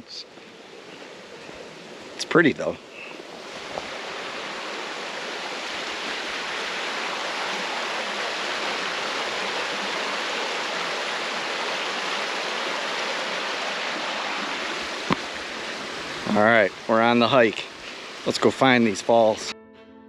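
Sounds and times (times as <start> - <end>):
river water rushing: 0.0 - 19.4.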